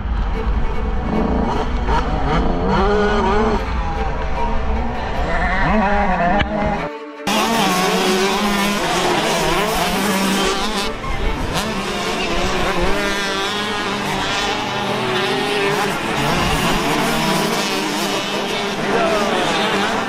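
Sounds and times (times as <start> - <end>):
motocross bike engines revving: 0.9 - 20.0.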